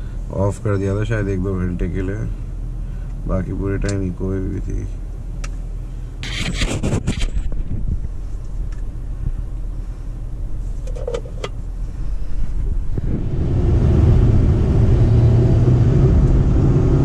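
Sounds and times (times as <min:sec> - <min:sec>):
low steady car cabin hum: 0:00.0 - 0:06.4, 0:07.3 - 0:15.4
road and drivetrain noise: 0:00.0 - 0:17.0.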